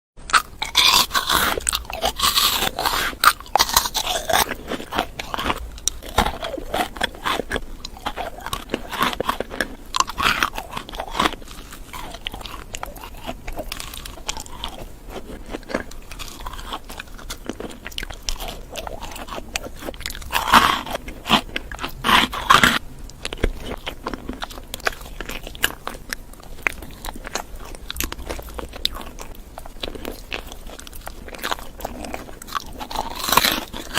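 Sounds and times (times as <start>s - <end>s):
person chewing crunchy food: 0.2s - 33.9s.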